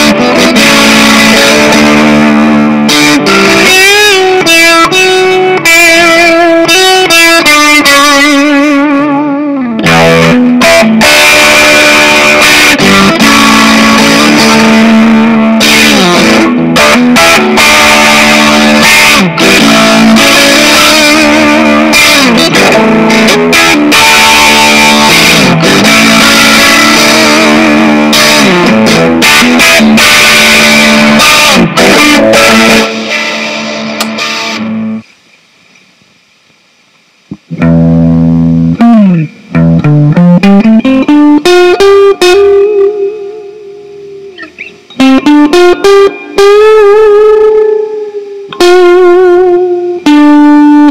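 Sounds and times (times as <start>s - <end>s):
distorted electric guitar riff: 0.0s - 50.9s.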